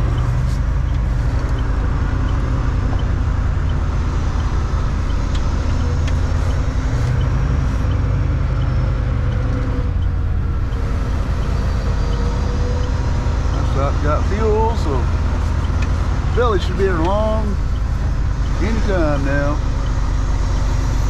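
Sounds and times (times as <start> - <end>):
diesel truck engine running: 0.0 - 21.0
faint regular ticking: 0.0 - 21.0.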